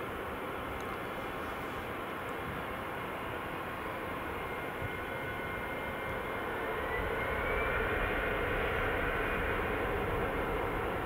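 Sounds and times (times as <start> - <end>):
high jet engine whine: 0.0 - 11.0
jet engines at takeoff thrust: 0.0 - 11.0.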